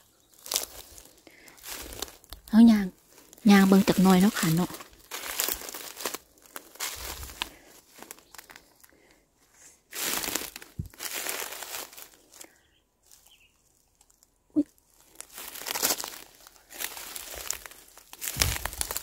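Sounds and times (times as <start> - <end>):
footsteps on dry grass and leaves: 0.0 - 19.0.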